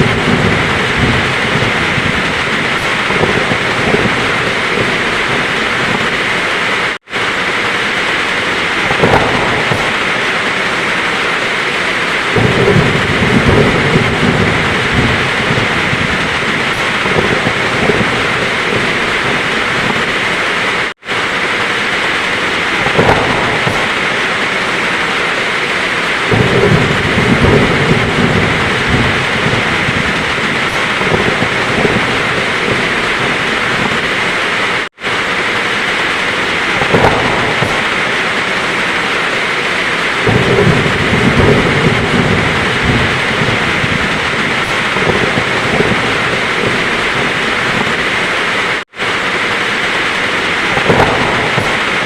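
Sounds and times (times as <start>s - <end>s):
heavy rain: 0.0s - 52.0s
thunder rumbling: 0.0s - 52.0s.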